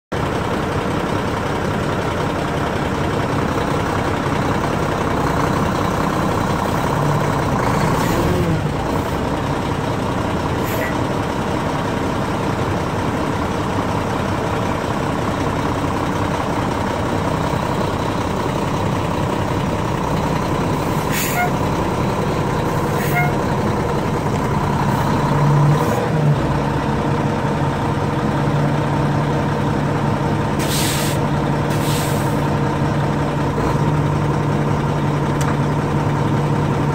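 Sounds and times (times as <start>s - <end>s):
diesel truck engine running: 0.1s - 36.9s.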